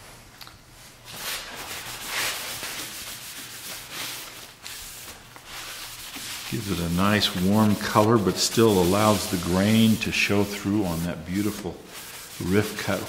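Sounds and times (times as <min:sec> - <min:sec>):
paper towel swishing on wood: 0:01.0 - 0:13.0.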